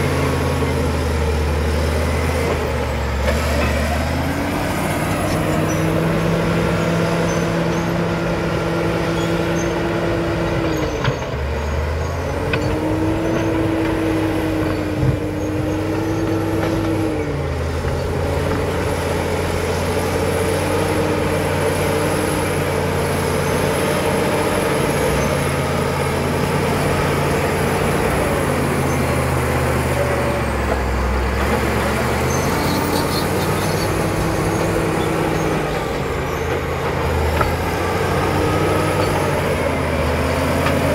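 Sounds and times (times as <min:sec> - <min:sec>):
bulldozer diesel engine working: 0:00.0 - 0:40.9
high engine whine: 0:00.0 - 0:40.9.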